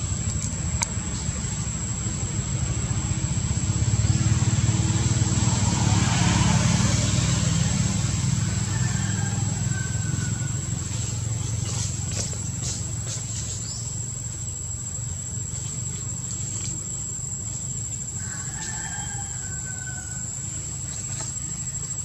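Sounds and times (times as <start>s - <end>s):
passing motor vehicle rumble: 0.0s - 22.0s
steady high-pitched whine: 0.0s - 22.0s.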